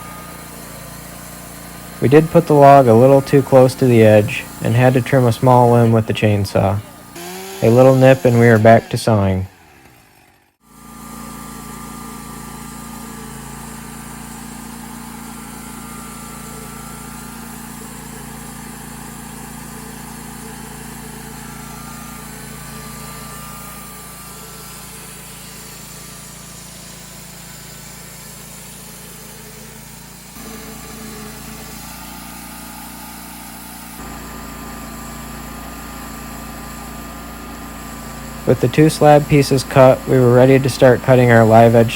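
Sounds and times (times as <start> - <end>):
sawmill engine running: 0.0 - 41.9.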